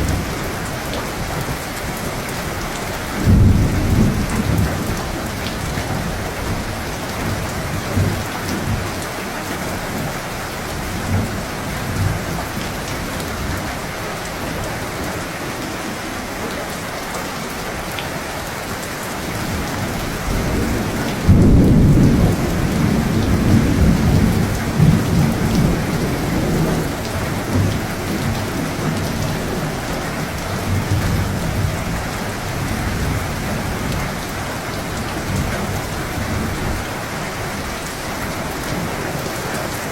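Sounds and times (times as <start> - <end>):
thunder rumbling: 0.0 - 15.6, 19.2 - 37.8
steady rain falling: 0.0 - 39.9.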